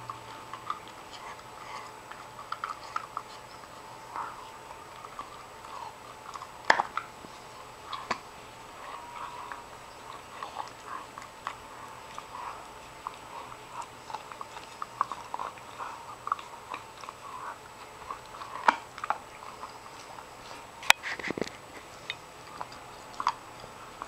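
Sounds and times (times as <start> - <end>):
dog chewing hard hoof: 0.0 - 24.0.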